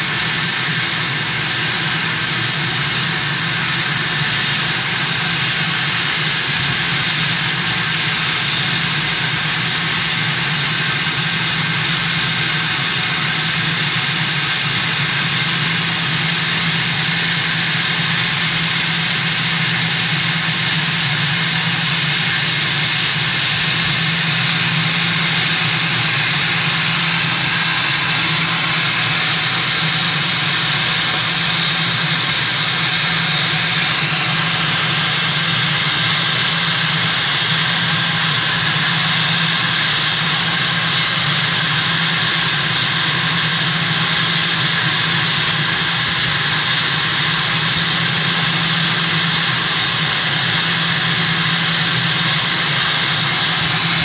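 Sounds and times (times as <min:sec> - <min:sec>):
jet engines idling with whine: 0:00.0 - 0:54.0.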